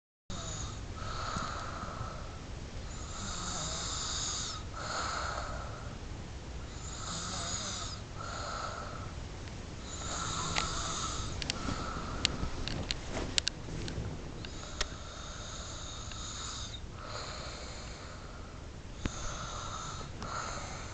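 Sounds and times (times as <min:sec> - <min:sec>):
person snoring: 0:00.3 - 0:06.0, 0:06.7 - 0:09.1, 0:09.8 - 0:12.4, 0:14.5 - 0:20.9.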